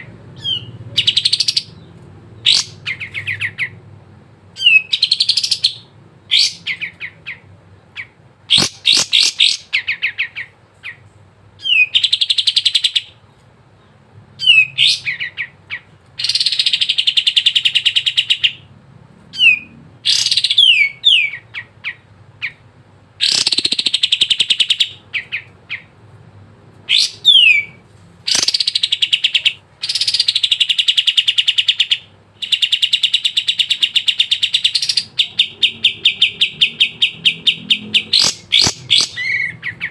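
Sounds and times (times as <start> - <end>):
songbird singing with trills: 0.0 - 3.8, 4.6 - 13.2, 14.4 - 18.7, 19.3 - 22.6, 26.9 - 39.9.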